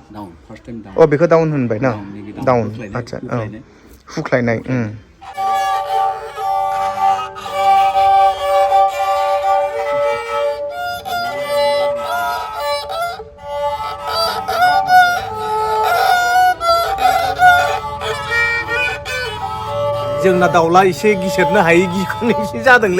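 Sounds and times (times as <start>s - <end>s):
bowed fiddle melody: 0.8s - 3.9s, 4.6s - 22.9s.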